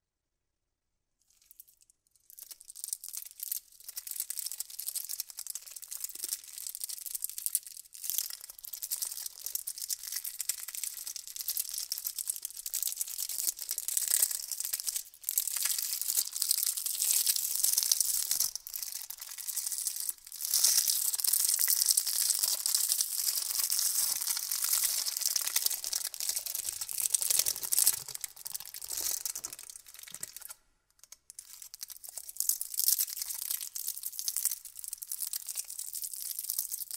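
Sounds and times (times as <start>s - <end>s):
candy wrappers crinkling: 1.3s - 36.9s.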